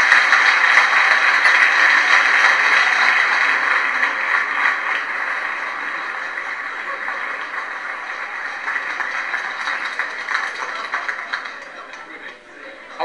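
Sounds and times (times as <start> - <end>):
audience clapping: 0.0 - 12.4
audience laughing: 1.6 - 12.8.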